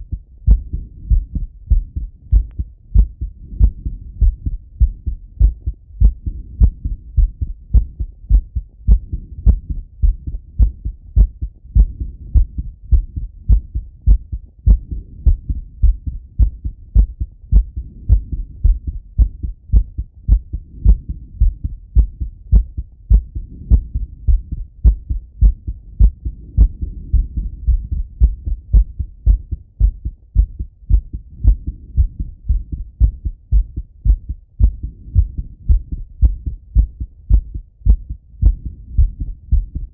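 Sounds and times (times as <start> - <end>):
heartbeat through stethoscope: 0.0 - 39.9.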